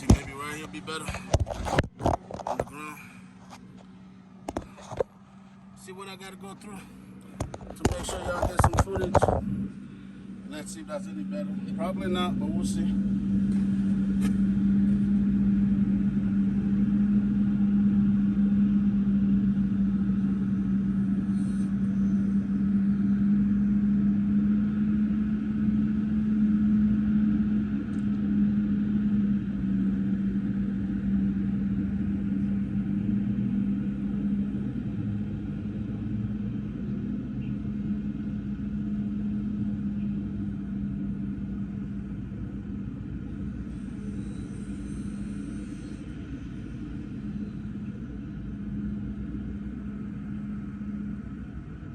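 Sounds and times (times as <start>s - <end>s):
engine humming steadily: 0.0s - 51.9s.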